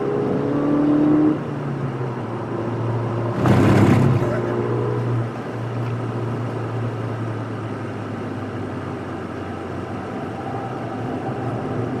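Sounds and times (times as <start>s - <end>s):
car engine running from inside cabin: 1.0s - 12.0s.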